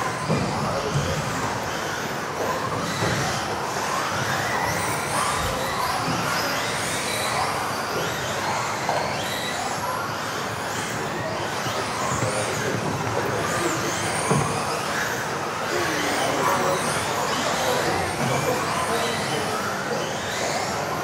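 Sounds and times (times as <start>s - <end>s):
rc car motors whining: 0.0s - 21.0s.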